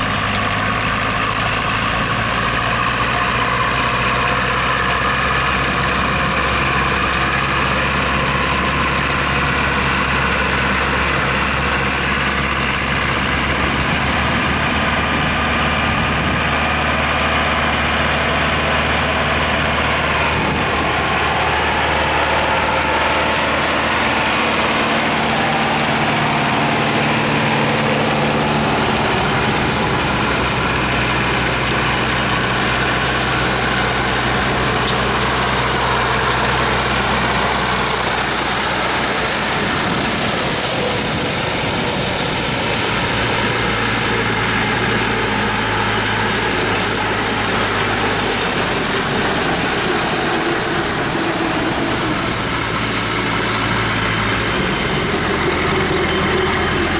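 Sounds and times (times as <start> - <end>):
drum mower cutting grass: 0.0 - 56.9
tractor diesel engines running: 0.0 - 56.9.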